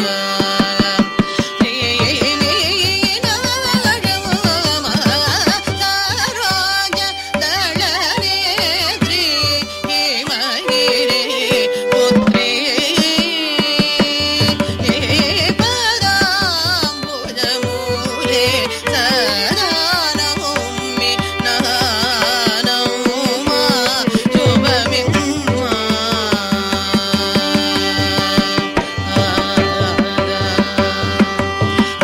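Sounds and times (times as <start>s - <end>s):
violin: 0.0s - 32.0s
woman singing: 0.0s - 32.0s.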